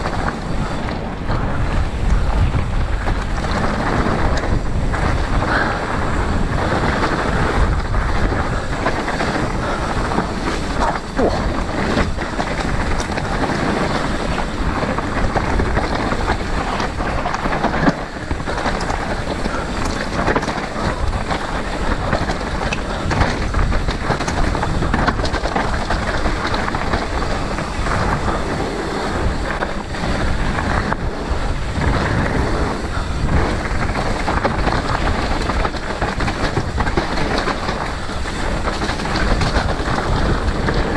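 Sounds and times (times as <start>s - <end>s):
mountain bike rumble and clatter: 0.0s - 40.9s
wind buffeting microphone: 0.0s - 40.9s.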